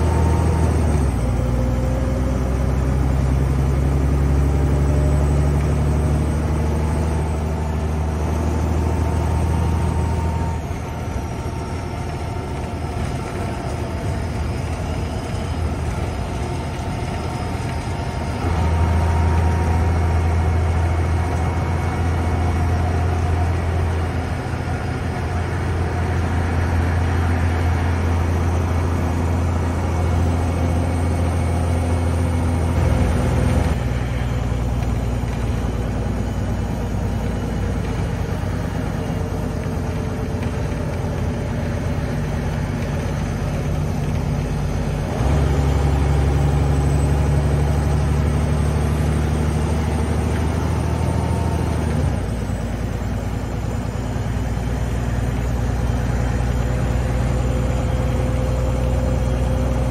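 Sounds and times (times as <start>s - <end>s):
diesel bus engine drone: 0.0s - 59.9s
road noise: 0.0s - 59.9s.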